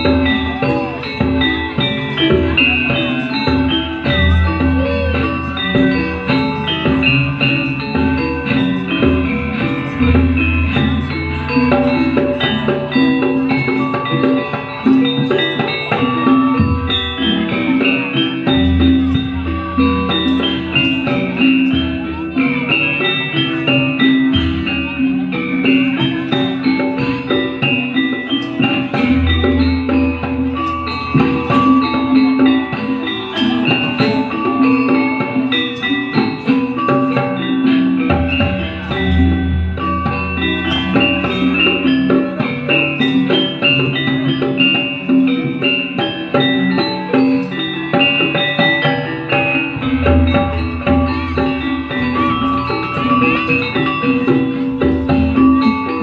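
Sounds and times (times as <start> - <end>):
drum: 0.0 - 56.0
gamelan metallophones playing: 0.0 - 56.0
tuned percussion ringing notes: 0.0 - 56.0.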